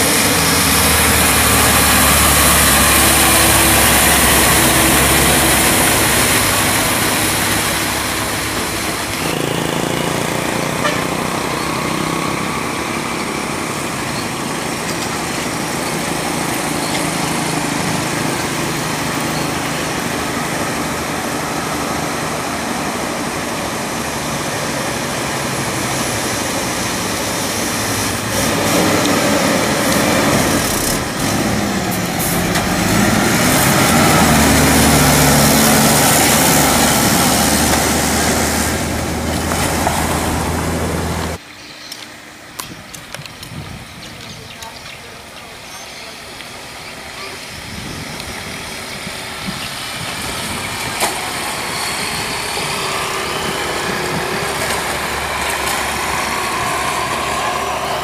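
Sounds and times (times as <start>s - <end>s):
truck diesel engines: 0.0s - 58.0s.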